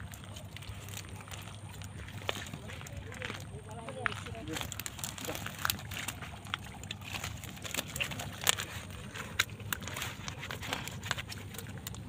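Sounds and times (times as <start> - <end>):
fishing net clicks and rustles on gravel: 0.0 - 12.0.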